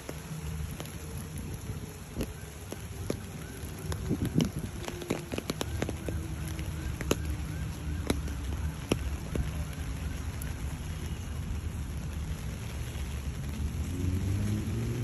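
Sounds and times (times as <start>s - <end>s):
rain on paving and foliage: 0.0s - 15.0s.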